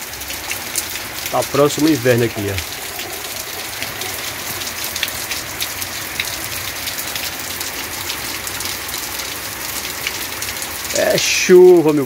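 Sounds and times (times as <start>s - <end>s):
rain on tile roofs and paving: 0.0s - 12.0s.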